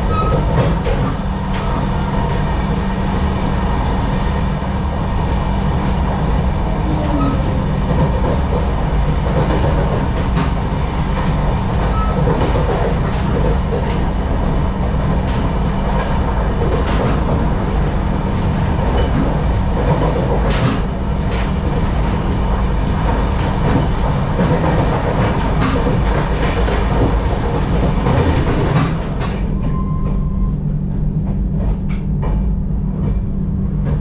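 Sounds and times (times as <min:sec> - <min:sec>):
train rumble from inside coach: 0:00.0 - 0:34.0.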